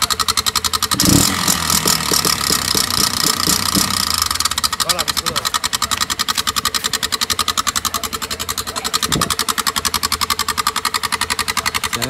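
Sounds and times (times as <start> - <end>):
motorcycle engine idling with popping: 0.0 - 12.0.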